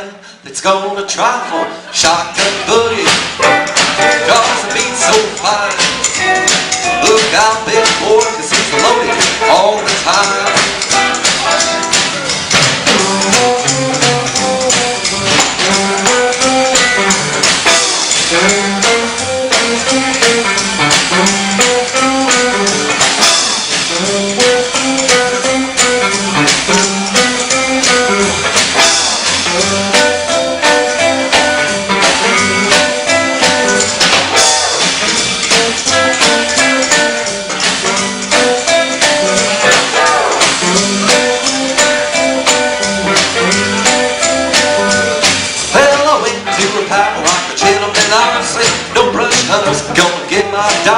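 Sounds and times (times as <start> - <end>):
country boogie band playing: 0.5 - 50.9.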